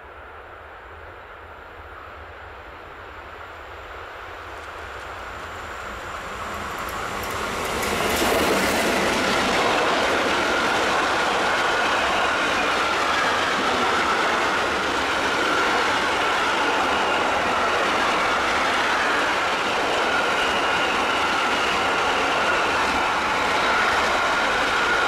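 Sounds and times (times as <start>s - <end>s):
train passing: 0.0s - 25.0s
rush of wheels on rails: 3.9s - 25.0s.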